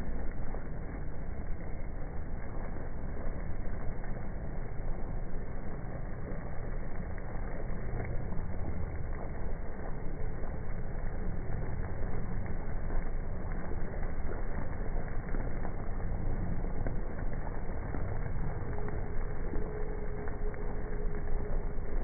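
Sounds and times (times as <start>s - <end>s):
curry bubbling in a pot: 0.0s - 22.0s.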